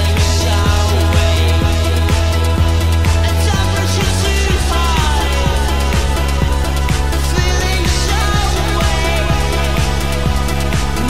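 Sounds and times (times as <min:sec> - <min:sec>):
background music with heavy bass: 0:00.0 - 0:11.0.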